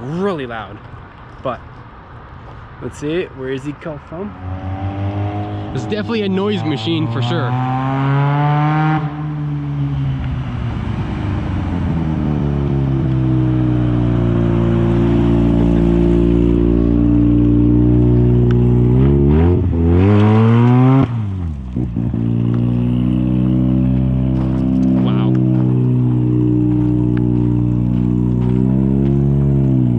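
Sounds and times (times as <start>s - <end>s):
rotary car engine accelerating: 4.3s - 29.9s.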